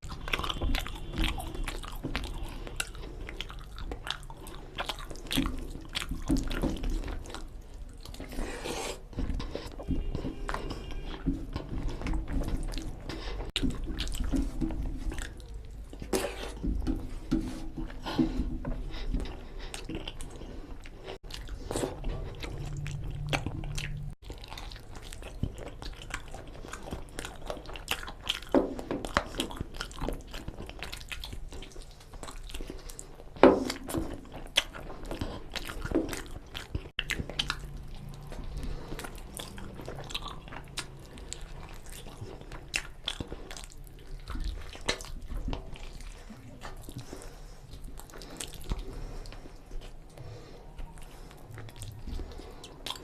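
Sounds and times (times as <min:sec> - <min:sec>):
mouth clicks and smacks: 0:00.0 - 0:53.0
person chewing wetly: 0:00.0 - 0:53.0.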